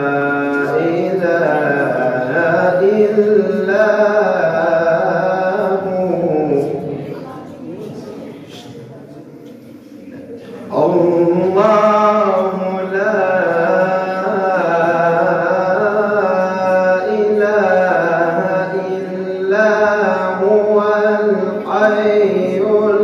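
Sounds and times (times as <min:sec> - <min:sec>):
man reciting melodically: 0:00.0 - 0:07.3, 0:10.0 - 0:23.0.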